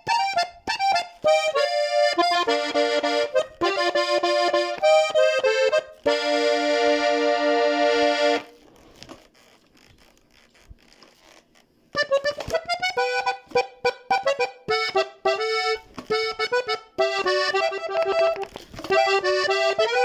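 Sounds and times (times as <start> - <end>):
button accordion playing: 0.0 - 8.6, 12.0 - 20.0.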